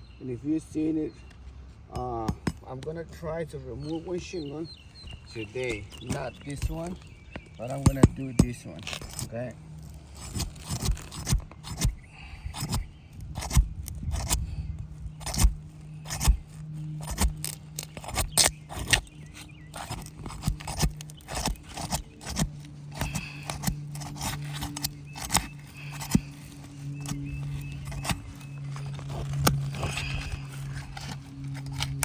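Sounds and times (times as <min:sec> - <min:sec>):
steady low hum: 0:00.0 - 0:32.0
tools prying roof shingle: 0:05.1 - 0:32.0.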